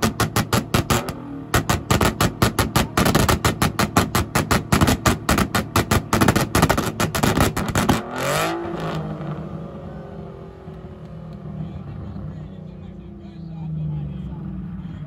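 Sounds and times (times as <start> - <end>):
car engine idling: 0.0 - 15.0
car engine on rev limiter: 0.0 - 15.0.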